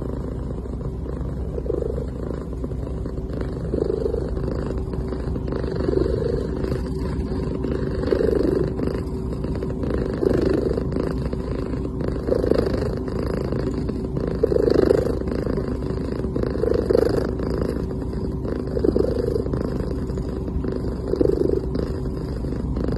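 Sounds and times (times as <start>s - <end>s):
cat purring: 0.0s - 22.9s.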